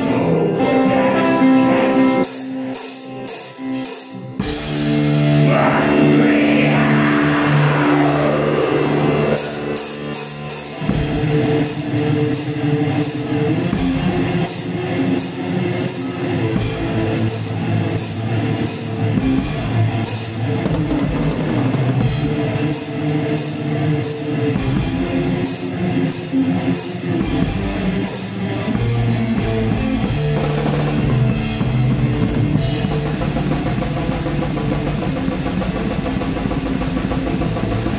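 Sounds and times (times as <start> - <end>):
black metal band playing: 0.0 - 37.9
distorted guitars: 0.0 - 37.9
loud drum kit: 2.2 - 37.9.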